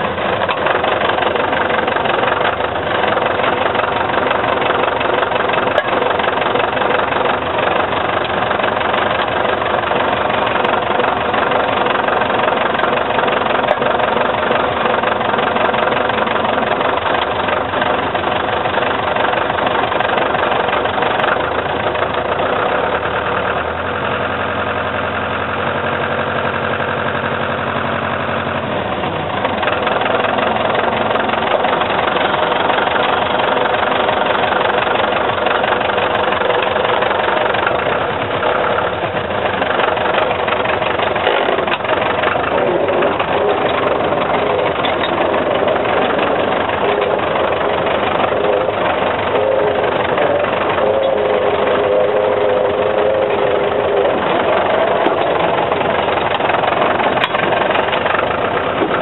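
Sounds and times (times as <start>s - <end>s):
car engine running: 0.0s - 59.0s
driving noise: 0.0s - 59.0s.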